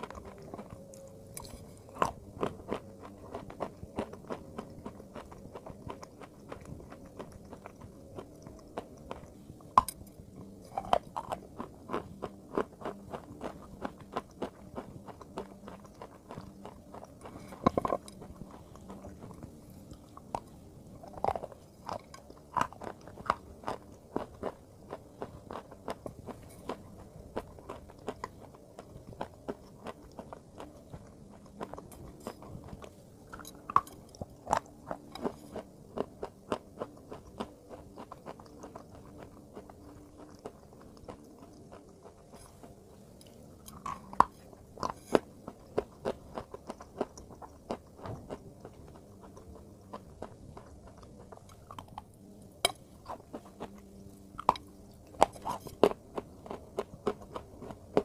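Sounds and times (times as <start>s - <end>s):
person biting and chewing crunchy food: 0.0s - 58.0s.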